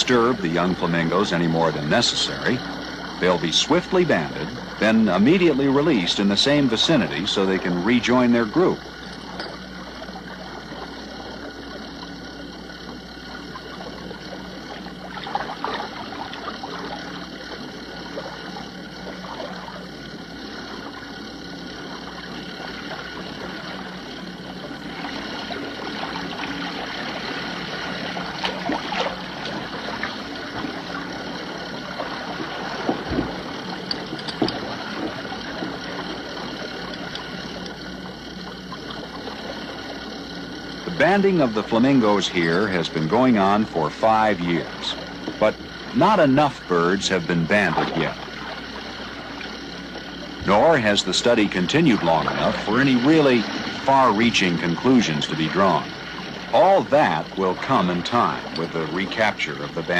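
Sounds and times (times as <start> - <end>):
boat motor running: 0.0 - 59.9
water splashing: 0.0 - 59.9.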